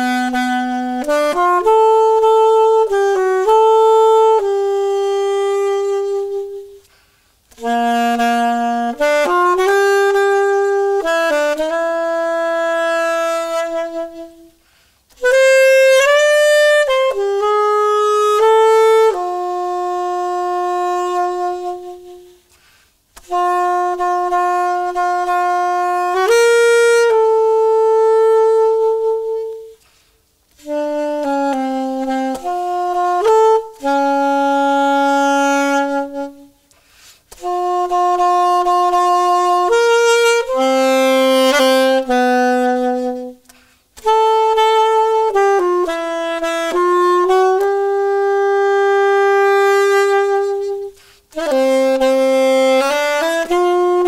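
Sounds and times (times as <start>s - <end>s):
solo wind instrument melody: 0.0s - 54.0s.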